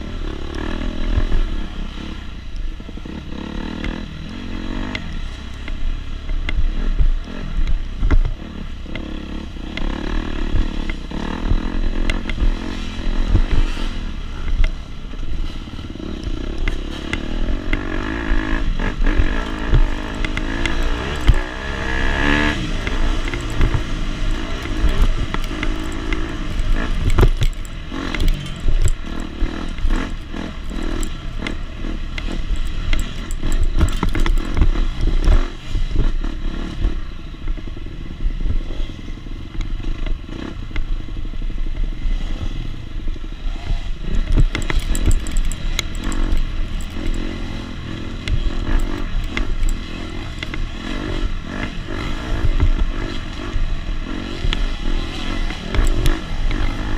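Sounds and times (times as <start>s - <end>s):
dirt bike engine revving: 0.0s - 37.1s, 43.5s - 56.9s.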